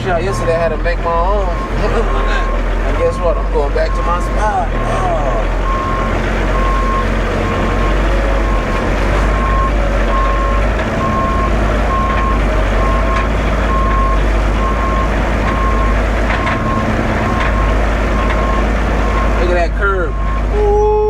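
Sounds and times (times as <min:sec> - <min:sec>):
diesel engine running: 0:00.0 - 0:21.0
reversing alarm beeping: 0:00.0 - 0:21.0.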